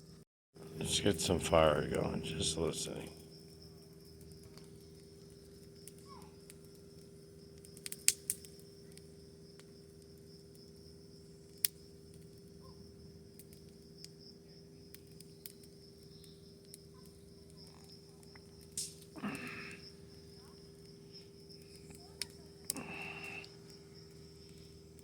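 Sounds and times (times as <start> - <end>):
high insect buzz: 0.0 - 25.0
low steady hum: 0.0 - 25.0
campfire crackling: 0.6 - 25.0.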